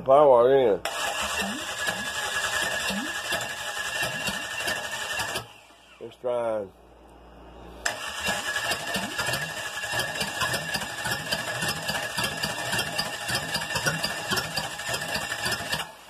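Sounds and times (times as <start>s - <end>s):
starter motor cranking engine: 0.8s - 6.0s, 7.8s - 16.0s.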